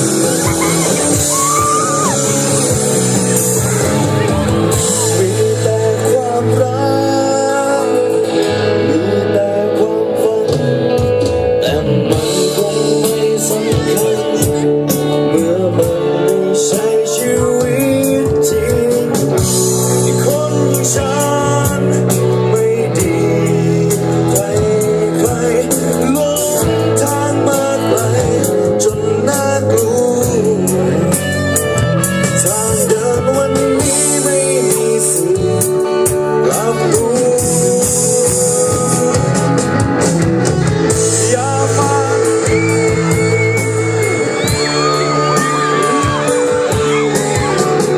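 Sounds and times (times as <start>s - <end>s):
drums: 0.0s - 47.9s
electric guitars: 0.0s - 47.9s
person singing: 0.0s - 47.9s.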